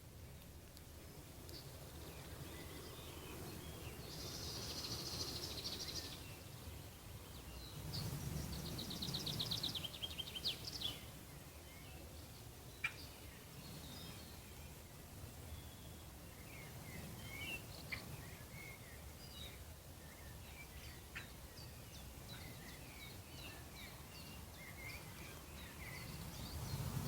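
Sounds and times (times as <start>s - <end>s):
songbirds singing trills: 1.0s - 27.0s.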